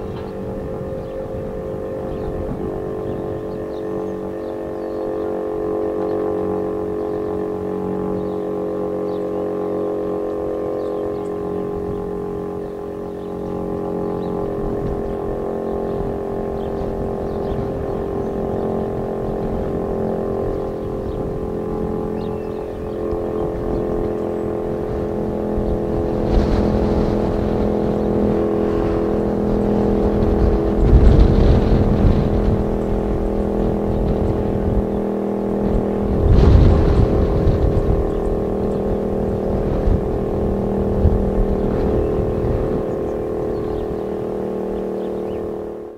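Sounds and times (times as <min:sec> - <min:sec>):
low rumbles: 0:00.0 - 0:45.9
warning siren steady tone: 0:00.0 - 0:45.9.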